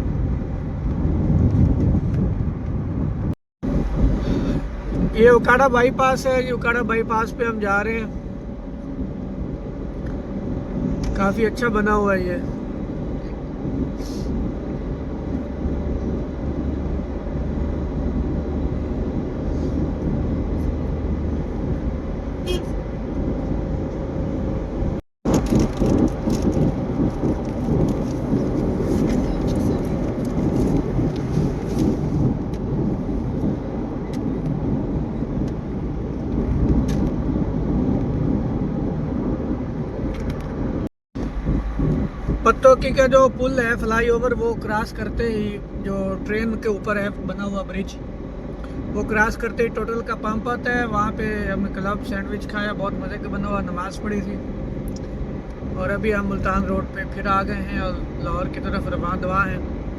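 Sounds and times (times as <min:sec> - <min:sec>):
road and engine noise inside car: 0:00.0 - 0:59.9.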